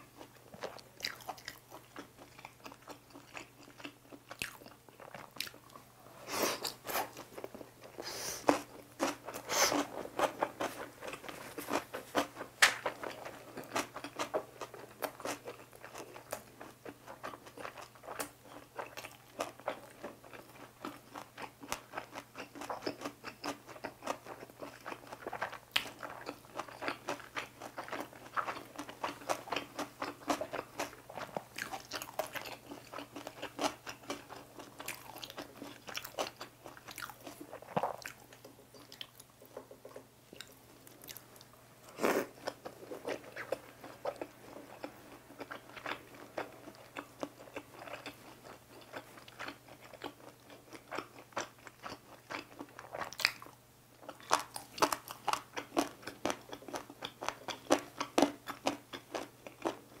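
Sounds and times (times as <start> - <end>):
crunchy food chewing: 0.1 - 5.9, 6.6 - 60.0.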